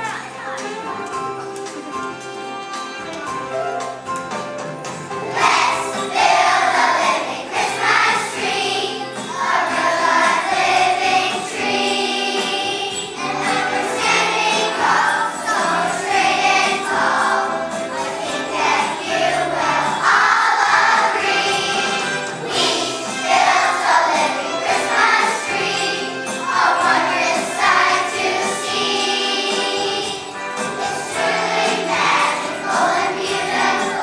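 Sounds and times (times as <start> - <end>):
musical accompaniment: 0.0 - 34.0
children's choir singing: 5.0 - 34.0.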